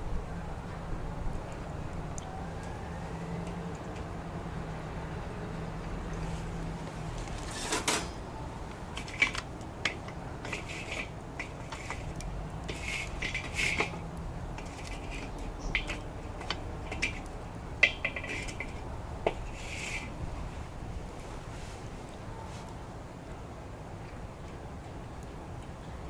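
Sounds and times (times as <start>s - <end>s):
distant traffic rumble: 0.0s - 26.0s
wood fire crackling and popping: 0.6s - 23.4s.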